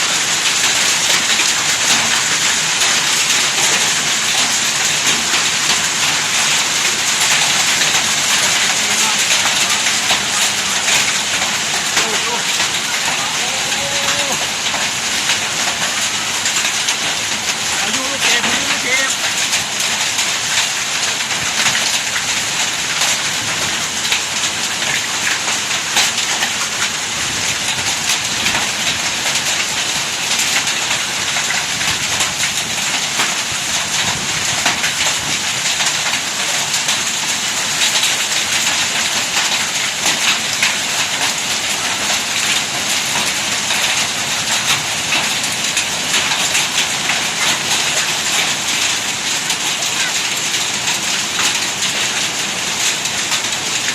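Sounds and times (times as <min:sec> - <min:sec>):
hail and rain pelting down: 0:00.0 - 0:53.9.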